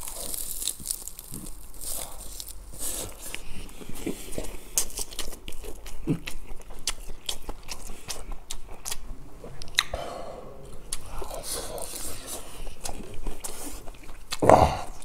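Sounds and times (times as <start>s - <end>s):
wet chewing and crunching: 0.0s - 10.0s, 10.6s - 15.0s.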